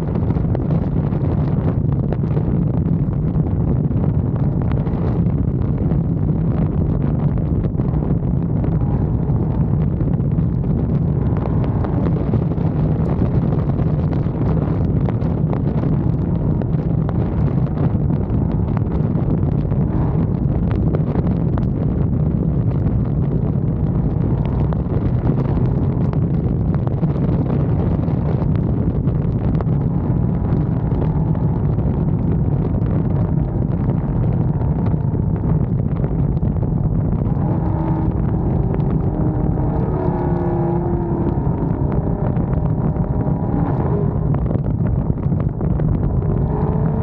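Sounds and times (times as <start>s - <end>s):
car engine droning at cruise: 0.0s - 47.0s
wind buffeting microphone: 0.0s - 47.0s.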